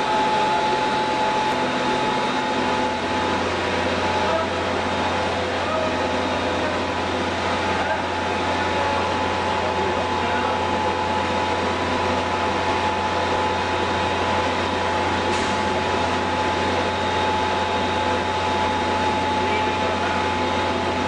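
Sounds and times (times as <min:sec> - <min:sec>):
machinery low hum: 0:00.0 - 0:21.0
mid-pitched machine whine: 0:00.0 - 0:21.0.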